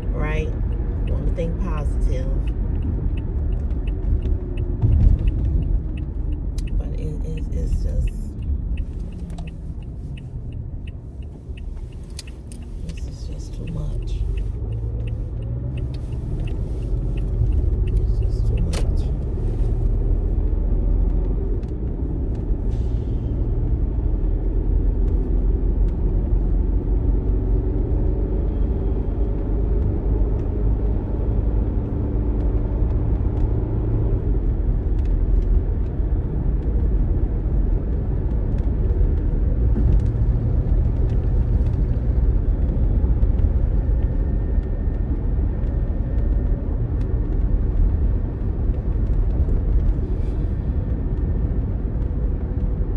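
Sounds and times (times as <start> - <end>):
car engine rumble: 0.0 - 52.9
road noise: 0.0 - 52.9.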